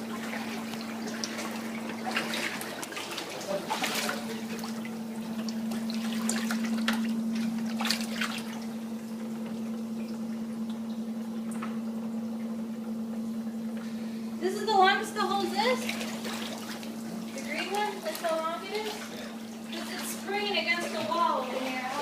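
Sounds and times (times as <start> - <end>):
water splashing and dripping: 0.0 - 12.6, 15.7 - 22.0
steady low hum: 0.0 - 22.0.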